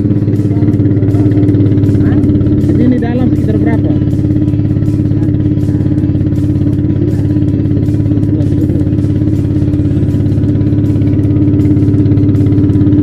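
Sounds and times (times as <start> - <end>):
motorboat engine chugging: 0.0 - 13.0.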